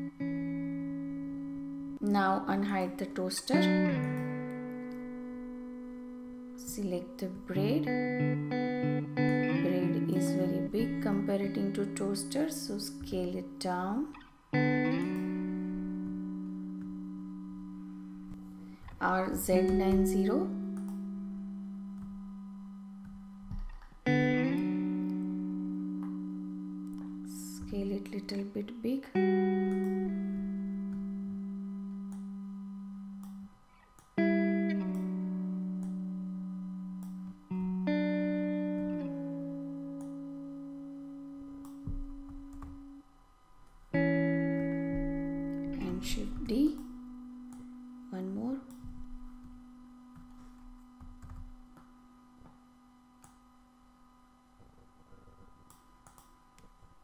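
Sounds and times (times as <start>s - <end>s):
plucked guitar-like chords: 0.0s - 43.0s, 43.9s - 52.6s
steady low hum: 0.0s - 57.0s.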